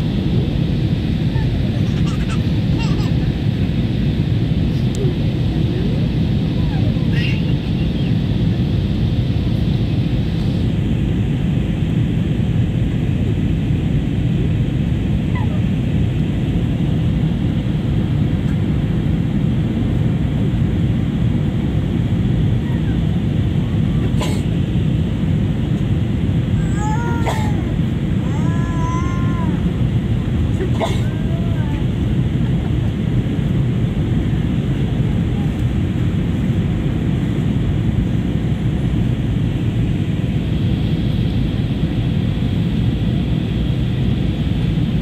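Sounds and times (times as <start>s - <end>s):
airliner cabin rumble: 0.0s - 45.0s.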